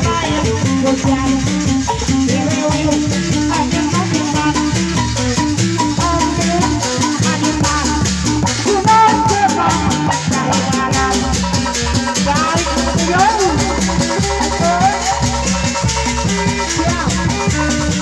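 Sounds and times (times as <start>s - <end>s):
bending melody line: 0.0s - 18.0s
drums: 0.0s - 18.0s
fast rattling beat: 0.0s - 18.0s.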